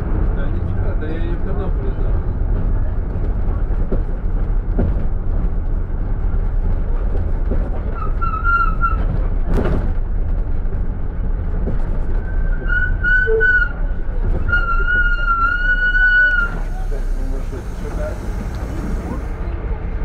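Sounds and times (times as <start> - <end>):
vehicle low rumble: 0.0 - 20.0.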